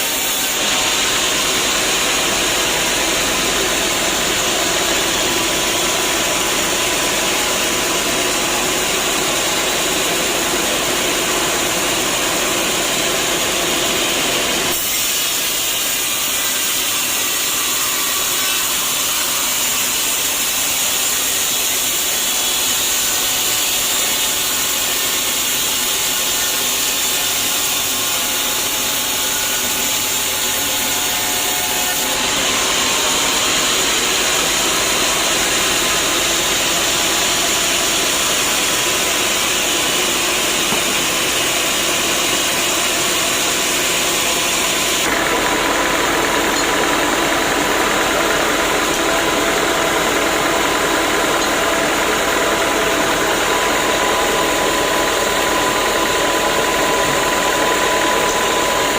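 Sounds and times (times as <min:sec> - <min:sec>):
saw cutting through log: 0:00.0 - 0:58.9.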